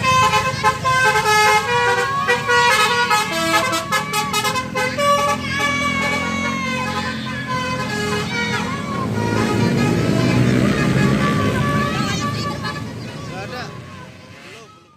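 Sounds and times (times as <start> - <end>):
multi-tone musical air horn: 0.0 - 12.7.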